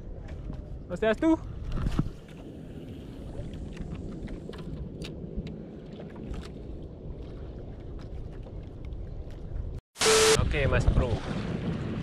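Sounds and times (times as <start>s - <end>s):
wind and water rumble: 0.0s - 9.8s, 10.4s - 12.0s.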